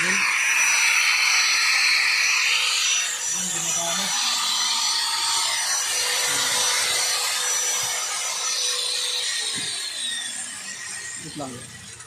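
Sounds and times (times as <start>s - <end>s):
angle grinder grinding: 0.0s - 12.0s.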